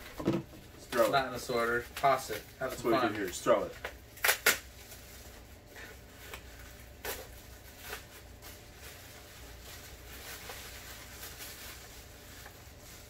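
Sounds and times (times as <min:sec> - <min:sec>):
plastic bag and bubble wrap crinkling: 0:00.7 - 0:13.0.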